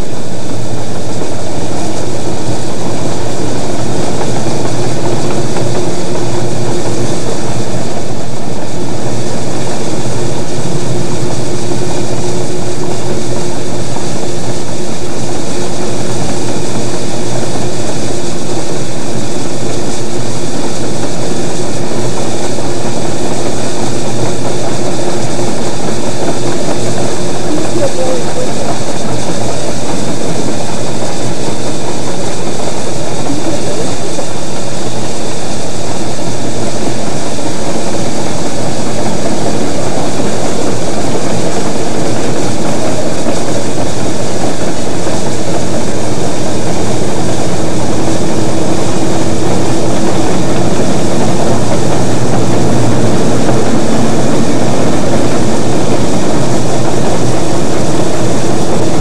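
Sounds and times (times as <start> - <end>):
steam train running: 0.0 - 59.0.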